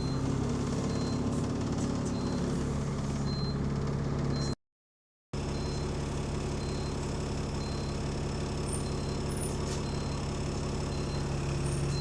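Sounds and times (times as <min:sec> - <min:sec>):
diesel bus engine idling: 0:00.0 - 0:04.5, 0:05.4 - 0:12.0.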